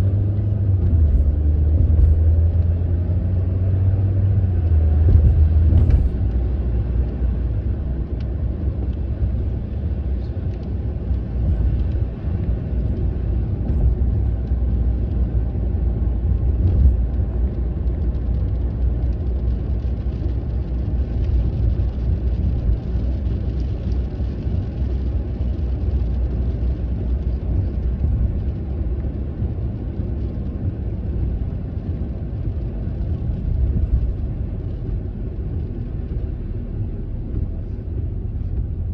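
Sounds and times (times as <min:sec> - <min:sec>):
car interior rumble: 0:00.0 - 0:38.9
light rain on car: 0:00.0 - 0:38.9.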